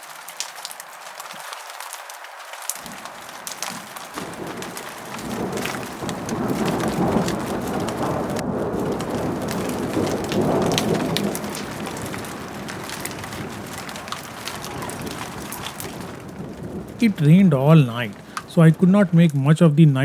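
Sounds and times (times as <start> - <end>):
heavy rain falling: 0.0 - 20.0
raindrops ticking: 0.0 - 20.0.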